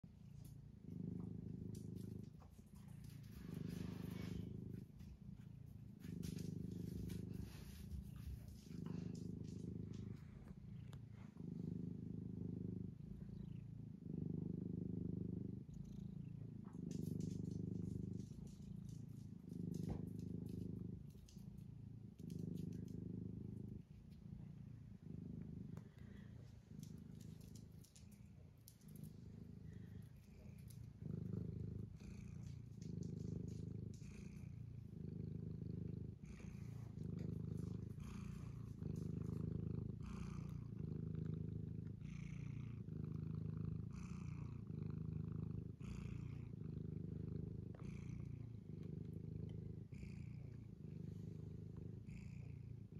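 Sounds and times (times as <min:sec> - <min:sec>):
cat purring: 0:00.0 - 0:52.9.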